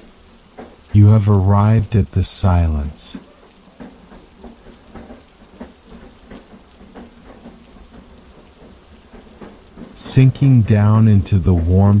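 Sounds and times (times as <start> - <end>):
heavy rain: 0.0 - 12.0
train wheels clacking on rails: 0.0 - 12.0.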